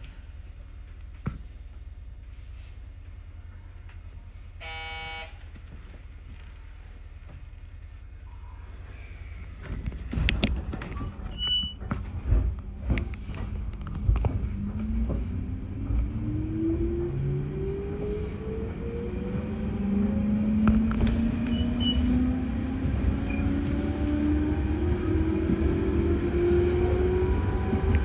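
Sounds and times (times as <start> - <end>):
train running rumble: 5.4 - 28.0.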